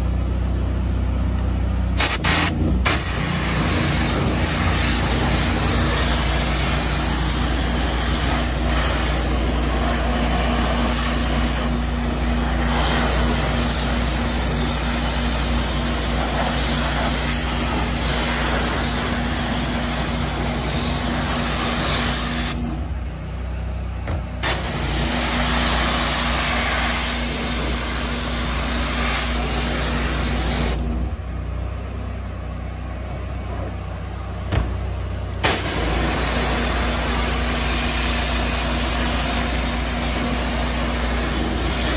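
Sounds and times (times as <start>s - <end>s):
pressure washer engine hum: 0.0s - 41.9s
high-pressure spray hissing on plastic: 2.0s - 22.7s, 24.4s - 31.0s, 35.4s - 41.9s.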